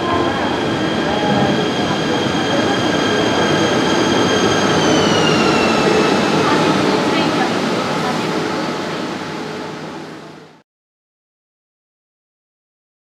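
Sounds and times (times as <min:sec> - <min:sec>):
rumbling train wheels: 0:00.0 - 0:10.6.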